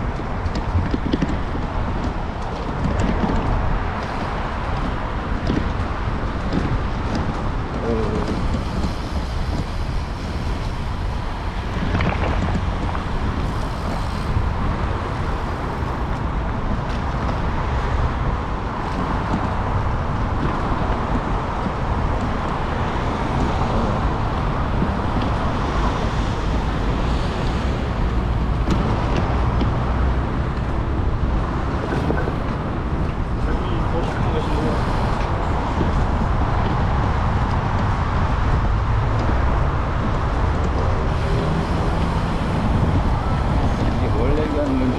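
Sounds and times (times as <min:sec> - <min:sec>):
vehicle road noise: 0:00.0 - 0:44.9.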